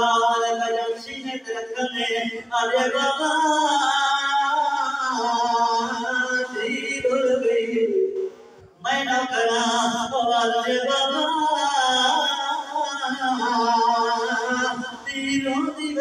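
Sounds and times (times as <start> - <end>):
man chanting into microphone: 0.0 - 16.0.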